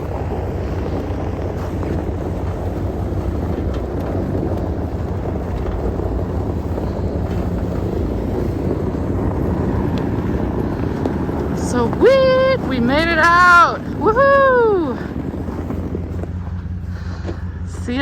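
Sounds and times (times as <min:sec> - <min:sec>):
pickup truck engine droning: 0:00.0 - 0:18.0.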